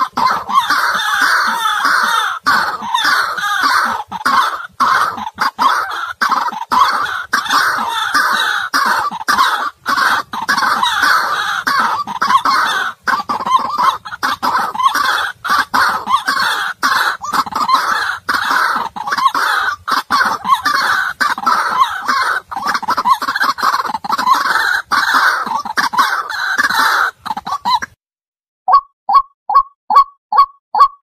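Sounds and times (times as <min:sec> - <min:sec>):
waterhen croaking calls: 0:00.0 - 0:28.0.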